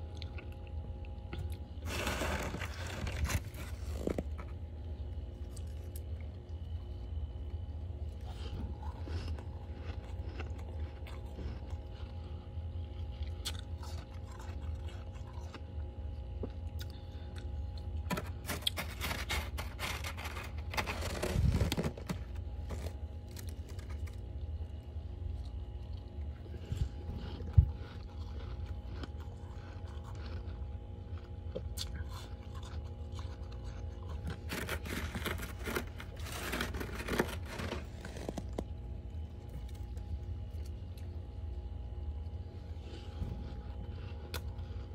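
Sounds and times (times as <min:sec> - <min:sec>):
freezer frost crunching: 0:00.0 - 0:44.9
steady low hum: 0:00.0 - 0:44.9.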